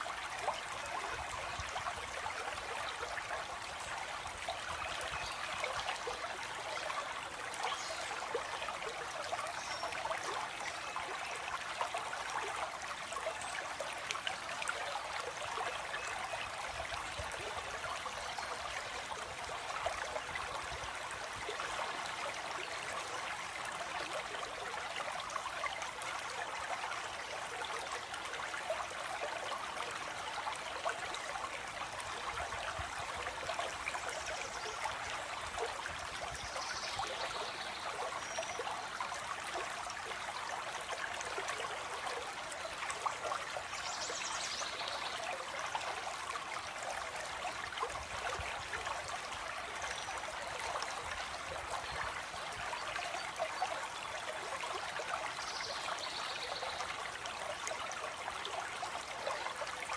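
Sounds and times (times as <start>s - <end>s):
stream water trickling: 0.0s - 59.9s.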